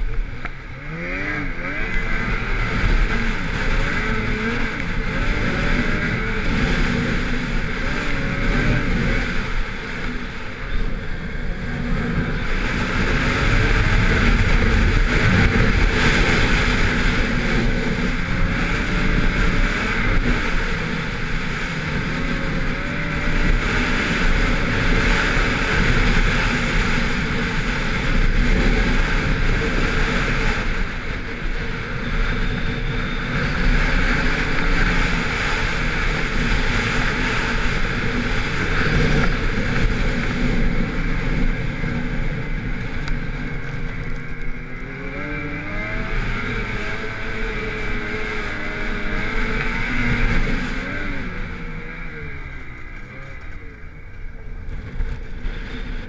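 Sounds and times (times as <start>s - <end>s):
snowmobile engine running hard: 0.0s - 56.0s.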